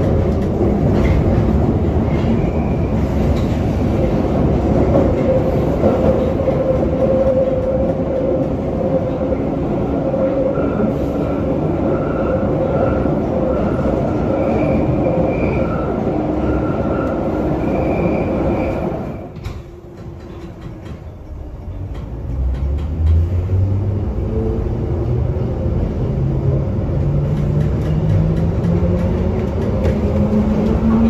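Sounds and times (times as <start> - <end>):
underground train whining: 0.0 - 31.0.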